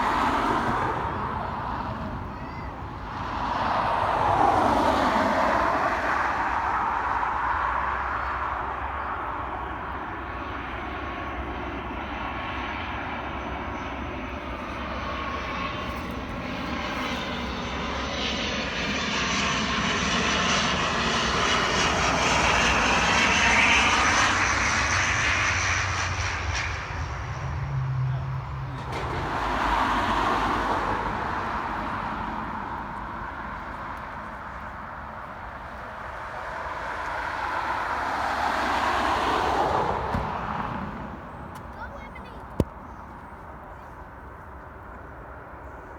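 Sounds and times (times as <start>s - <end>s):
airliner engines passing: 0.0s - 45.9s.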